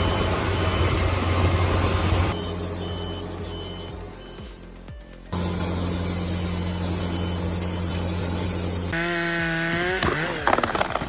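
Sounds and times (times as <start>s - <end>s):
engine revving: 0.0s - 11.0s
power saw cutting wood: 0.0s - 11.0s.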